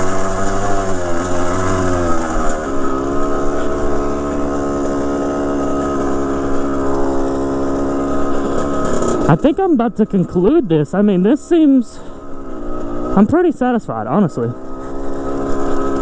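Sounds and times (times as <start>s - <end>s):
dirt bike two-stroke engine: 0.0s - 16.0s.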